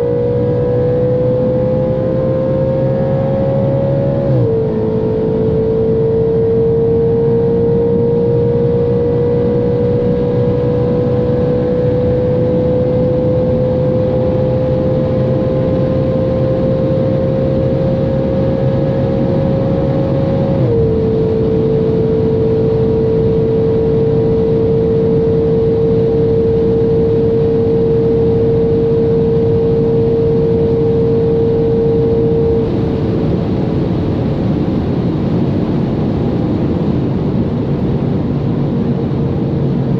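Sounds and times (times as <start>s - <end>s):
car engine at high revs: 0.0s - 39.9s
wind noise: 0.0s - 39.9s.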